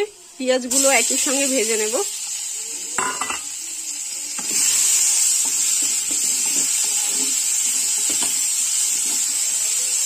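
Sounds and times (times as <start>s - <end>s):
onions and potatoes sizzling in oil: 0.0s - 10.0s.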